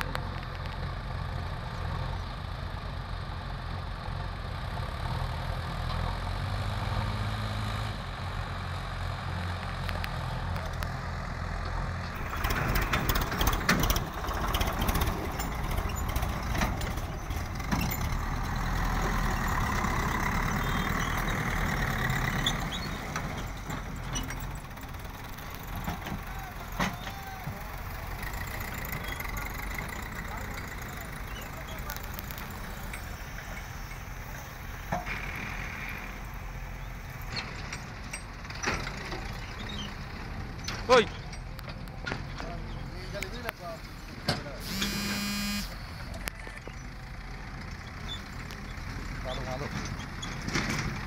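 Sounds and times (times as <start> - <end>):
backhoe engine working under load: 0.0 - 51.0
heavy diesel engines running: 0.0 - 51.0.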